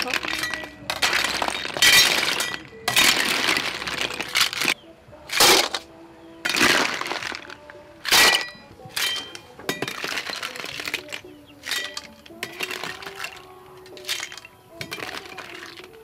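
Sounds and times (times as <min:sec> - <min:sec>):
shells rattling against metal skimmer: 0:00.0 - 0:05.8, 0:06.5 - 0:16.0
shells clattering into metal bowl: 0:00.0 - 0:05.9, 0:06.5 - 0:16.0.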